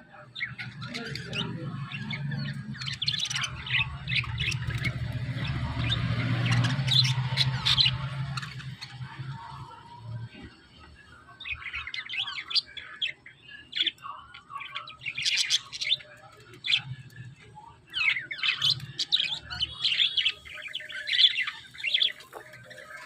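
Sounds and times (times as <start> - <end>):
parrots chirping and twittering: 0.2 - 23.0.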